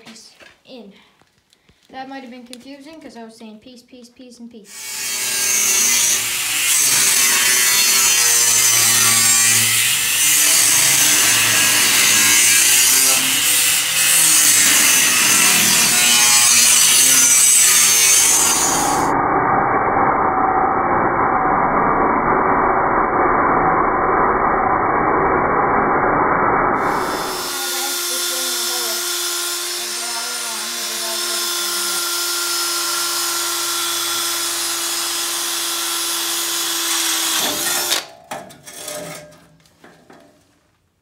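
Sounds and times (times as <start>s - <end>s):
angle grinder cutting steel: 4.7s - 25.8s, 26.7s - 39.4s.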